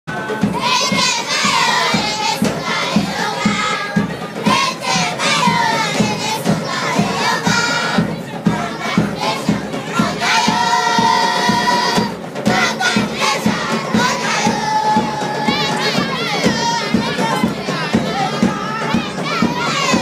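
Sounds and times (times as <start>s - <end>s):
crowd shouting: 0.1s - 20.0s
girls singing and chanting: 0.1s - 20.0s
steady beat: 0.1s - 20.0s.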